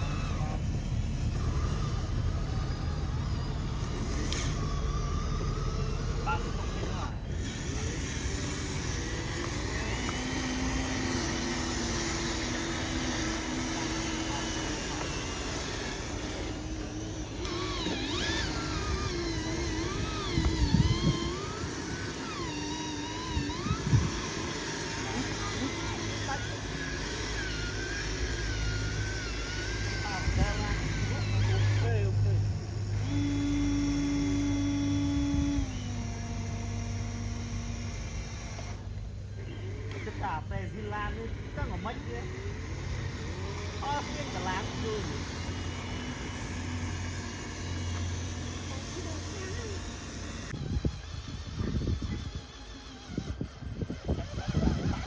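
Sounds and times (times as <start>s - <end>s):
faint motor whine: 0.0s - 55.0s
low hum: 0.0s - 55.0s
model trucks running: 0.0s - 55.0s.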